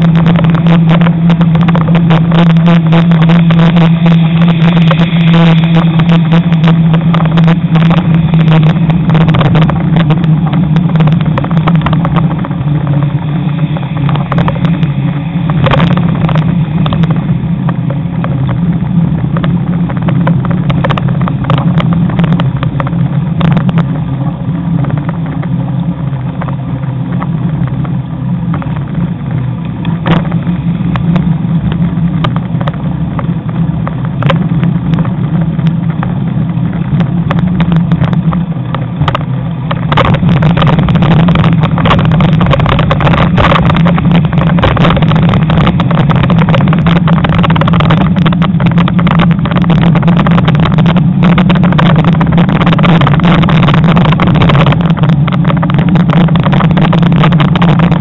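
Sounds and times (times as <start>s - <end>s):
road and traffic noise: 0.0s - 58.0s
wind buffeting microphone: 0.0s - 58.0s.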